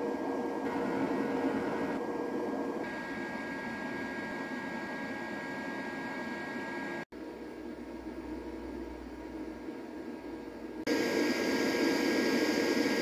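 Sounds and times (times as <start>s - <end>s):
cooling fan with high whine: 0.0s - 13.0s.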